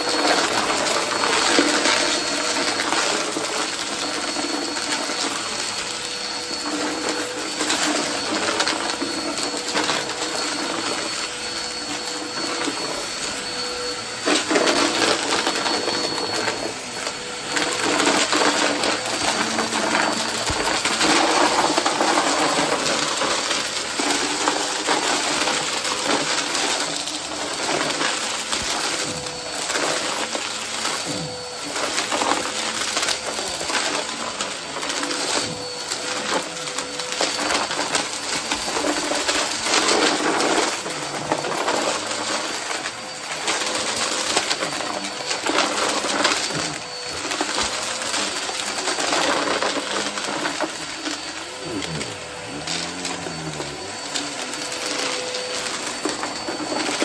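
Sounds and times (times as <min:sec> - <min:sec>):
debris rattling in vacuum: 0:00.0 - 0:57.0
vacuum cleaner running: 0:00.0 - 0:57.0.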